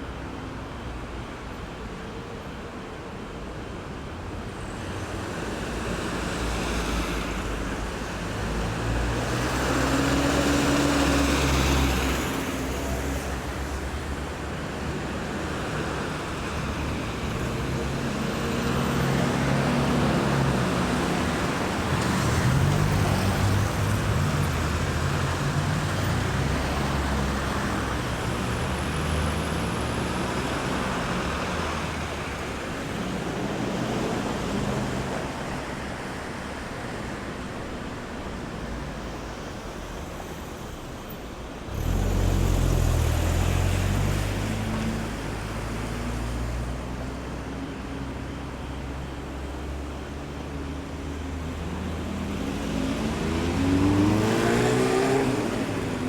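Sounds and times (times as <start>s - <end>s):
road traffic passing: 4.4s - 56.0s.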